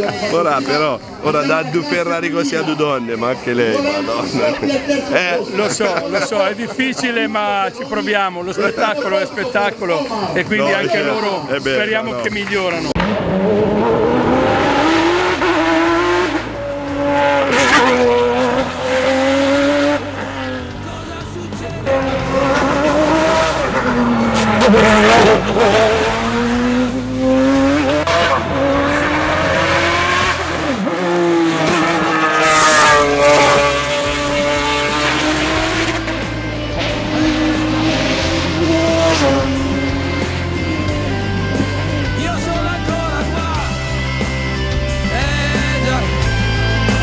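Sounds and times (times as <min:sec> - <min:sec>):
race car engine at full throttle: 0:00.0 - 0:07.2, 0:07.9 - 0:47.0.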